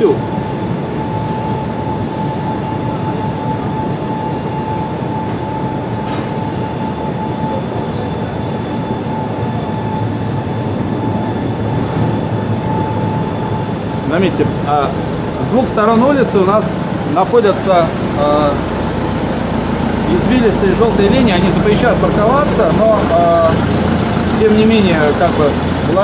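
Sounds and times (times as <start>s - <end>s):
air-conditioner units running: 0.0s - 26.0s.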